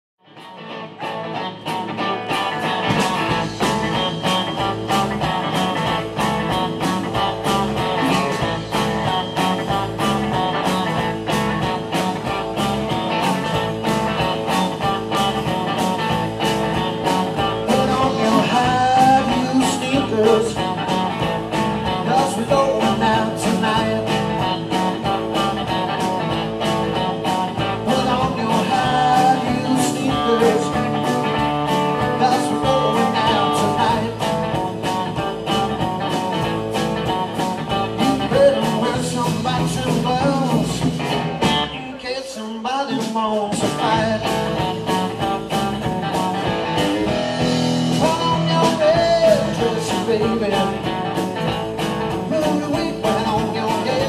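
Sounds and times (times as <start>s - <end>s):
bass guitar: 0.2s - 54.0s
electric guitars: 0.2s - 54.0s
drum kit: 0.3s - 42.0s, 42.8s - 54.0s.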